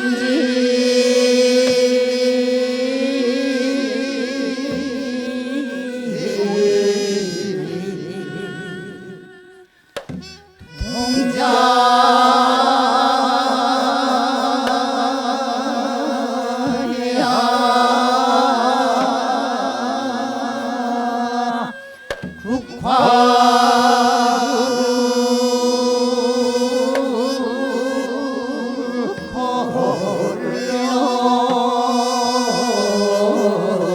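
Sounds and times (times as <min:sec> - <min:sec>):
mixed chorus singing with vibrato: 0:00.0 - 0:33.9.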